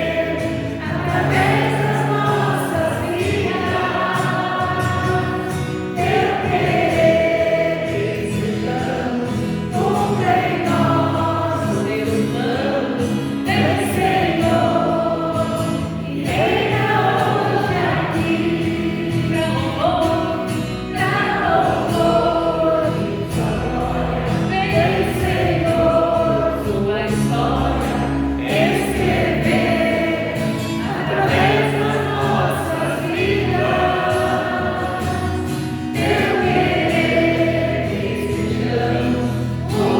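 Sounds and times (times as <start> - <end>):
group singing worship song: 0.0 - 39.9.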